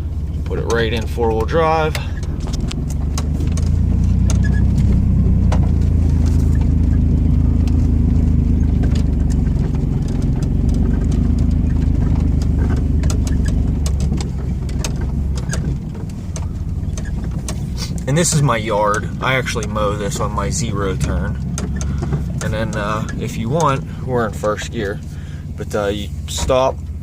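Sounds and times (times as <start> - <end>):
pickup truck engine running: 0.0 - 27.0
light clicks and rattles: 0.2 - 27.0.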